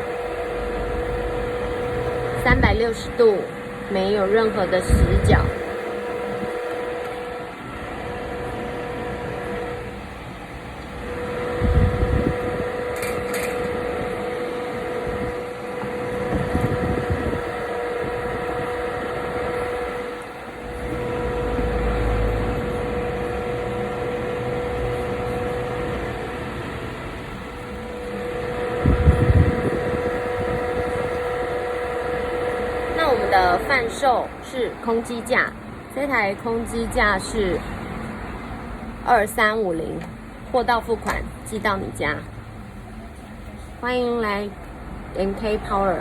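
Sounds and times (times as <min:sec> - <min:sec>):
portable fan motor whining: 0:00.0 - 0:46.0.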